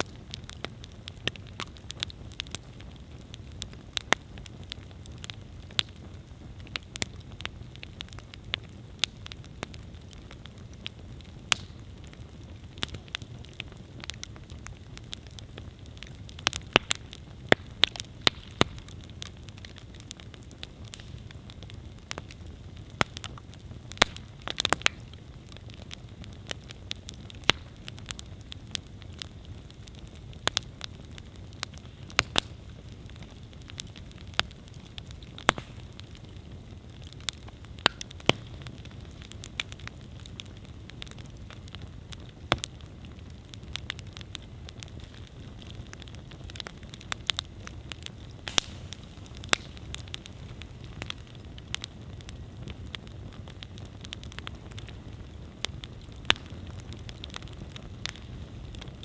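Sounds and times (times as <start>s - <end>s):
campfire rumble: 0.0s - 59.0s
fire crackles and pops: 0.0s - 59.0s.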